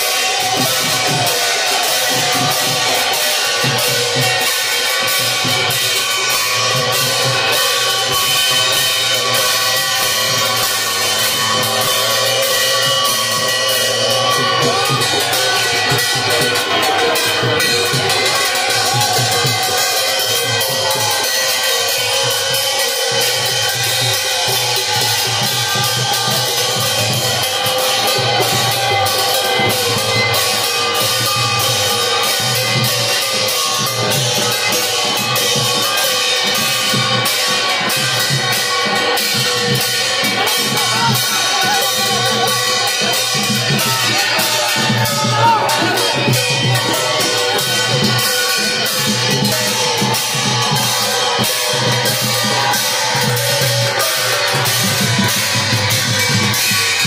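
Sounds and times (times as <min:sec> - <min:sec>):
drums beating: 0:00.0 - 0:57.0
gongs and cymbals ringing: 0:00.0 - 0:57.0.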